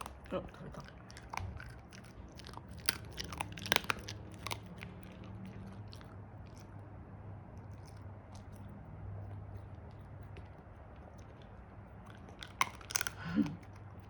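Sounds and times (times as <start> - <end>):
dog chewing and crunching: 0.0 - 14.0
low steady hum: 0.0 - 14.0.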